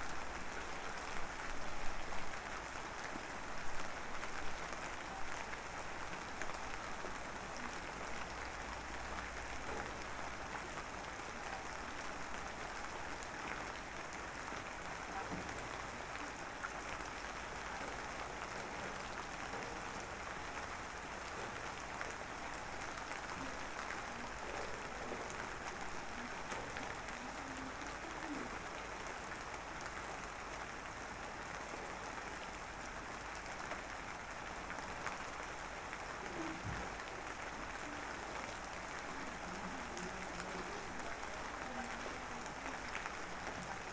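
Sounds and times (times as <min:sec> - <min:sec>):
light drizzle patter: 0:00.0 - 0:43.9.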